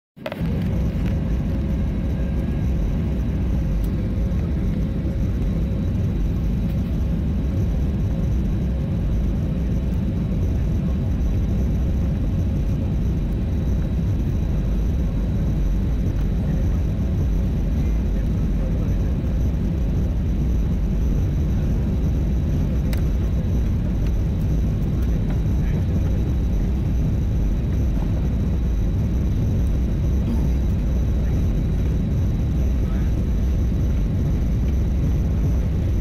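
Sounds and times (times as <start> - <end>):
airliner cabin low rumble: 0.2 - 36.0
faint steady hum: 0.2 - 36.0.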